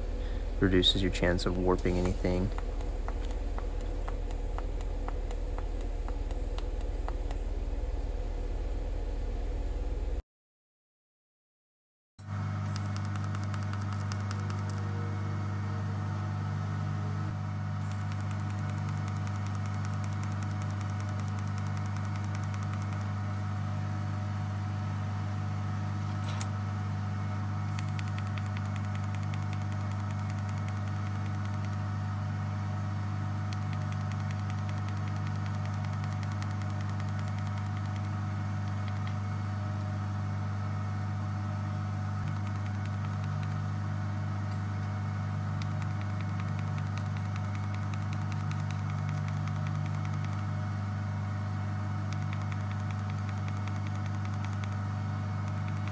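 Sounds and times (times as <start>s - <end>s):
welding machine electrical hum: 0.0s - 10.2s, 12.2s - 55.9s.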